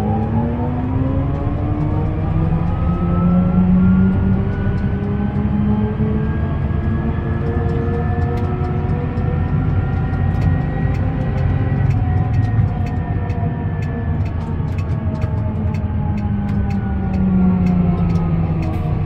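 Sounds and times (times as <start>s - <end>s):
tractor engine rumbling: 0.0s - 19.0s
transmission whining: 0.0s - 19.0s.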